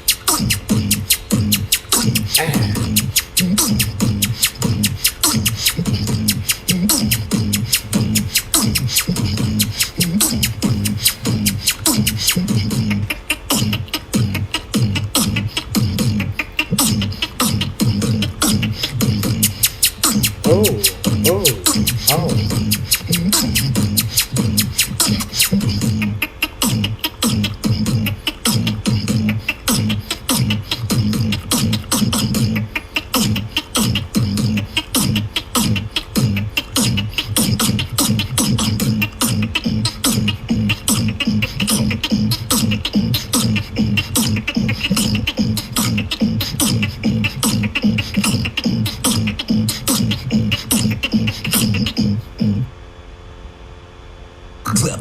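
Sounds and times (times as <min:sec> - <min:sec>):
person beatboxing: 0:00.0 - 0:52.7.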